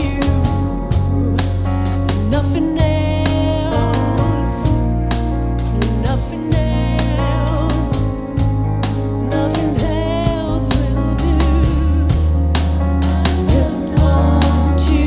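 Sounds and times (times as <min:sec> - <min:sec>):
drum kit beat: 0:00.0 - 0:15.0
sustained bass and chords: 0:00.0 - 0:15.0.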